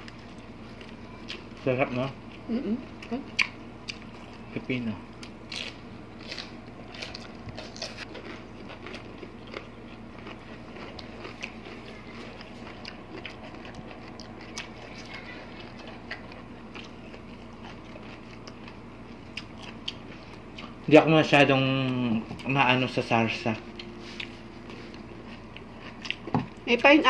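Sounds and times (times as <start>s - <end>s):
chewing and crunching: 0.0s - 27.0s.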